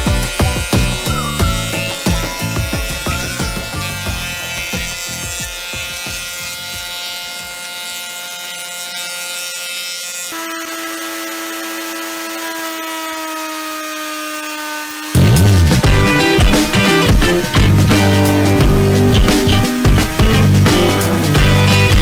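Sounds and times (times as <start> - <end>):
electric power tool motor whining: 0.0 - 22.0.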